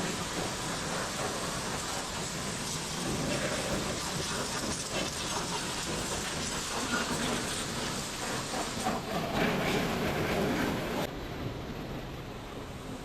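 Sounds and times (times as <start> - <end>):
water spraying onto car: 0.0 - 11.0.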